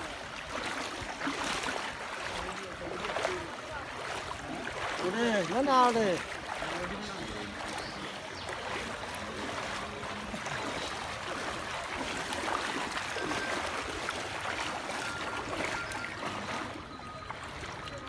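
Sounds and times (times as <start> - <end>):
people wading through water: 0.0 - 18.0.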